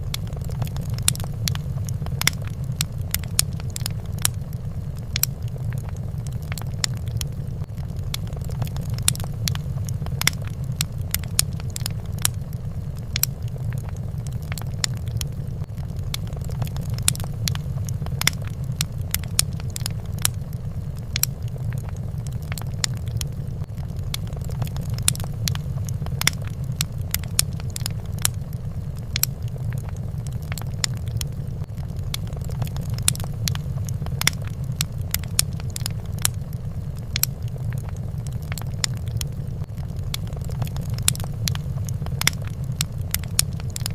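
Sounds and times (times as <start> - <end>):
fireplace fire crackling: 0.0 - 43.9
low rumble: 0.0 - 43.9.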